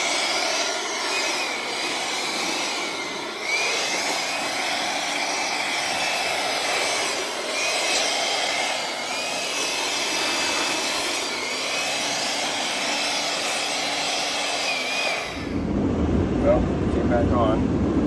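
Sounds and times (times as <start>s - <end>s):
high wavering motor whine: 0.0s - 17.3s
fan rushing air: 0.0s - 18.0s.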